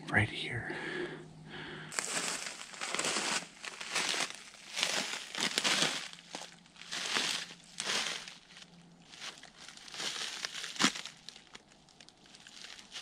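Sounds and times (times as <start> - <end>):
boots crunching through dry leaves: 1.9 - 11.6, 12.2 - 13.0.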